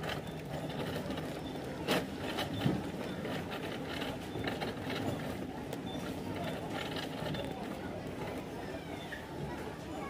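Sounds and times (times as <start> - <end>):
supermarket hum: 0.0 - 9.6.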